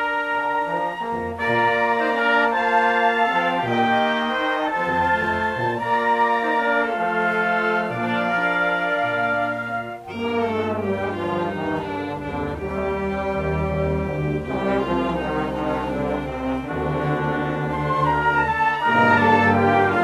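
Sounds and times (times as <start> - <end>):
orchestral strings and brass chords: 0.0 - 20.0.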